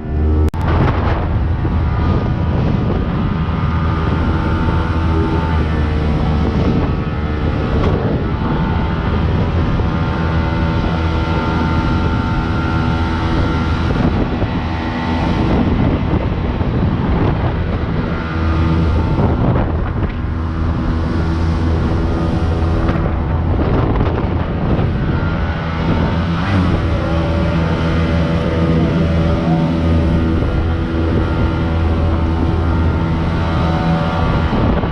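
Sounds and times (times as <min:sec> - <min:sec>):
boat engine running: 0:00.0 - 0:34.9
wind buffeting microphone: 0:00.0 - 0:34.9.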